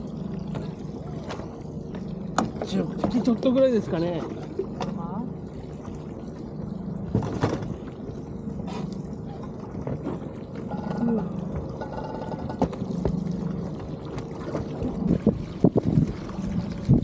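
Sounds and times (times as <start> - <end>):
boat motor humming: 0.0 - 17.0
water pouring and splashing: 0.0 - 17.0.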